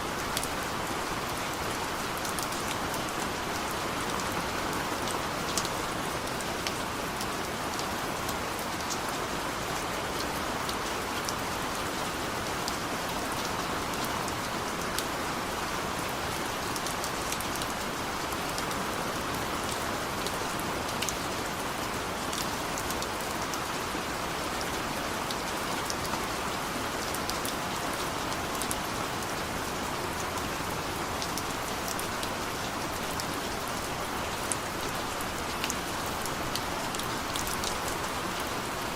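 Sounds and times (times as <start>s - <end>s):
heavy rain falling: 0.0s - 38.9s
raindrops pattering on surfaces: 0.1s - 38.9s.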